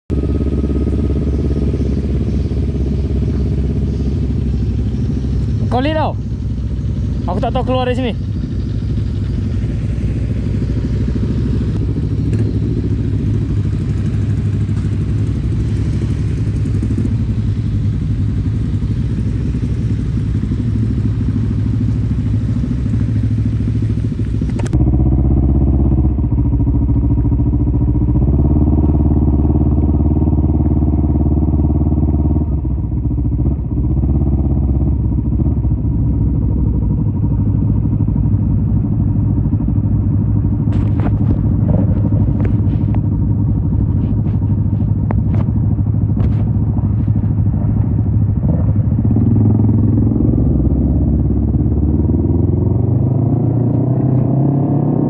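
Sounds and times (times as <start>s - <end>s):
motorcycle engine running: 0.1s - 55.0s.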